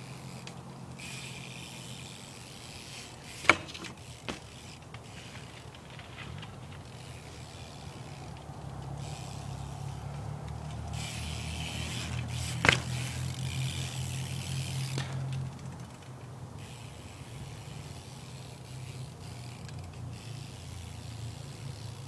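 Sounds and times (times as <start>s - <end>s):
bike tyres rolling on pavement: 0.0s - 22.0s.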